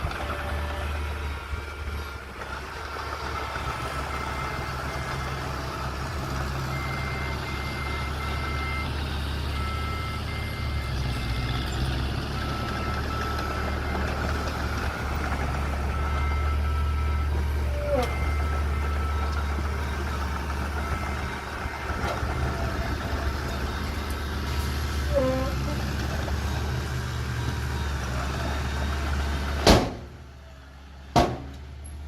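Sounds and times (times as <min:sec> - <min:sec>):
diesel engine running: 0:00.0 - 0:32.0
reversing alarm beeps: 0:03.2 - 0:29.6.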